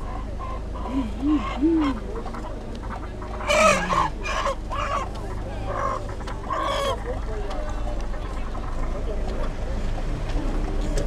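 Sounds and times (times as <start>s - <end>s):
car rumble: 0.0s - 11.0s
crowd voices and calls: 0.0s - 11.0s.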